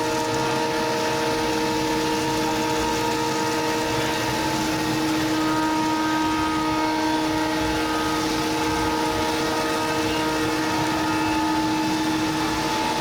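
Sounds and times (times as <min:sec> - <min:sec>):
router spindle whining: 0:00.0 - 0:13.0.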